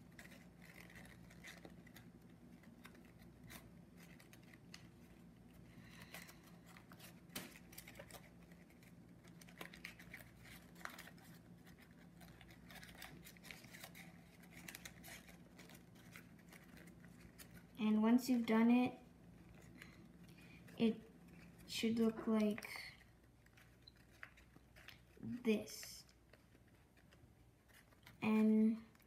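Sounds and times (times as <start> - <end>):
small paper clicks: 0.0 - 18.5, 19.4 - 29.0
origami paper rustling and crinkling: 0.0 - 29.0.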